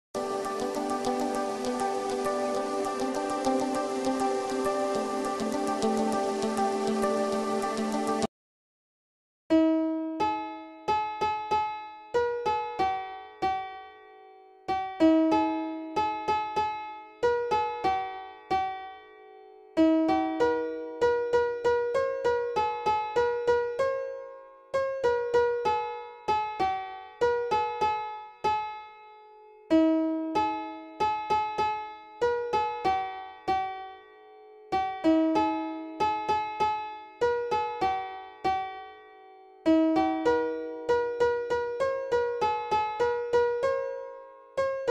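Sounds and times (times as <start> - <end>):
slow piano melody: 0.2 - 8.3, 9.5 - 28.9, 29.7 - 44.9.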